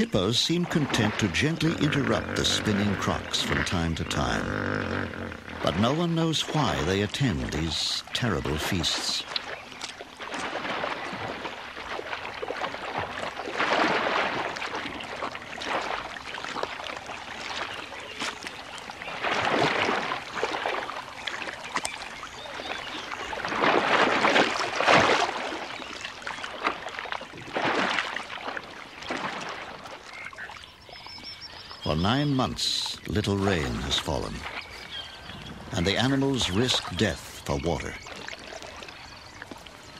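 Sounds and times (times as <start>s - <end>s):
water splashing and sloshing: 0.0s - 39.9s.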